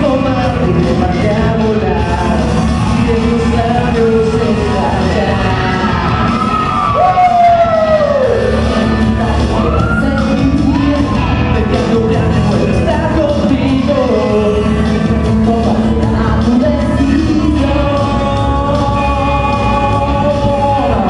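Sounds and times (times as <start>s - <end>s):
person singing into a microphone: 0.0s - 21.0s
song played through a pa: 0.0s - 21.0s.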